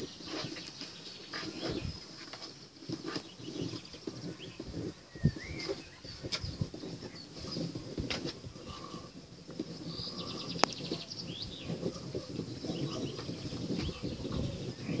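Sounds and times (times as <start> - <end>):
scuffling and rustling: 0.0 - 15.0
small birds chirping: 0.0 - 15.0.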